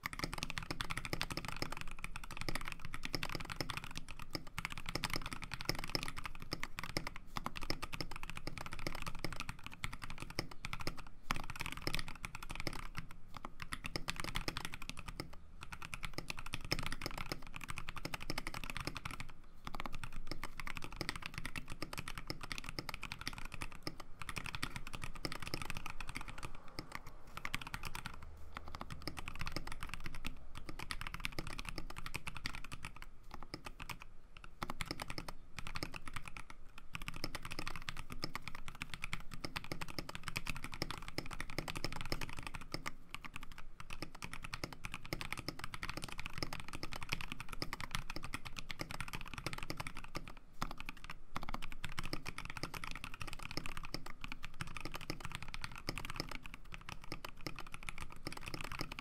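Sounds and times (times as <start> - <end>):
fast typing on mechanical keyboard: 0.0 - 59.0.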